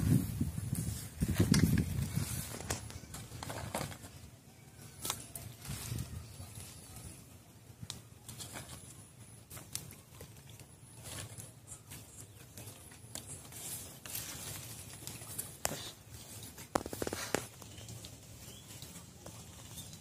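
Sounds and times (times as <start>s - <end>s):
rustling of leafy bushes: 0.0s - 20.0s.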